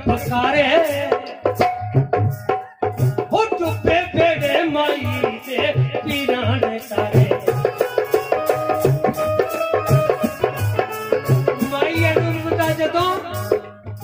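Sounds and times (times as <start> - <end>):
hand drum beat: 0.0 - 14.0.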